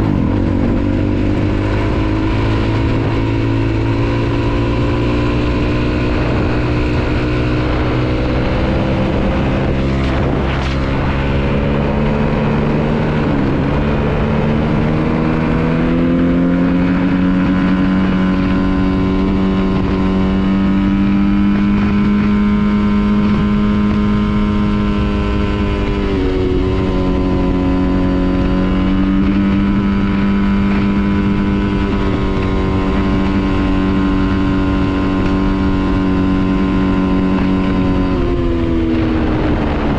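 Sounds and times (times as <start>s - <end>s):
dirt bike engine revving high: 0.0s - 39.9s.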